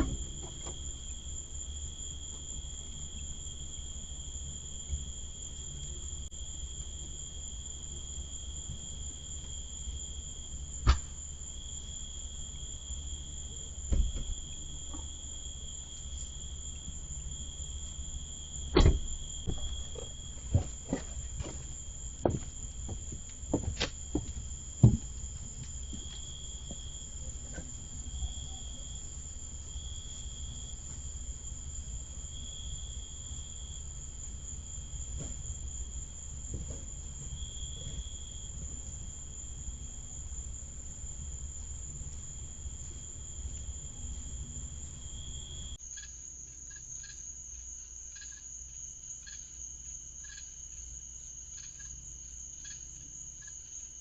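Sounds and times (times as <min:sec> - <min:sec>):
steady low hum: 0:00.0 - 0:45.8
crickets chirping: 0:00.0 - 0:54.0.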